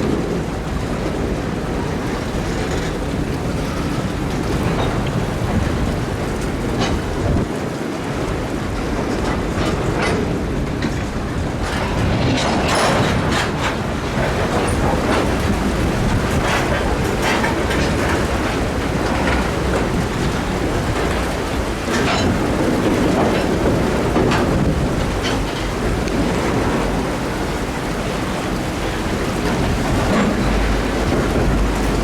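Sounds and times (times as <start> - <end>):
freight train rumbling: 0.0 - 32.0
train cars clanking: 0.0 - 32.0
water sloshing around wheels: 0.0 - 32.0.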